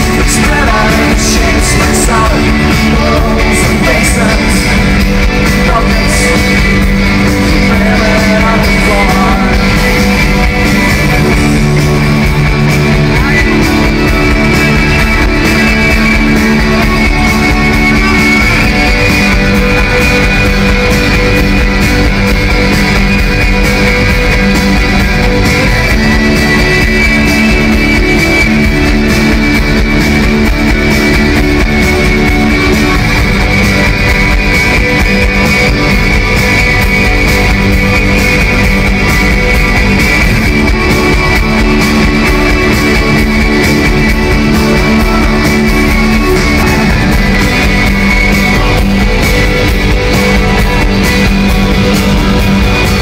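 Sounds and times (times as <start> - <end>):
drums: 0.0 - 53.0
electric guitar chords: 0.0 - 53.0.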